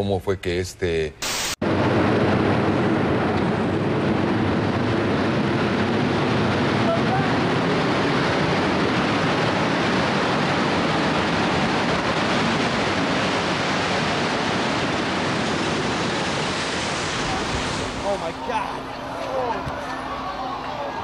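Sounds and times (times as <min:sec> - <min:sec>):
loud steady rushing noise: 0:01.2 - 0:21.0.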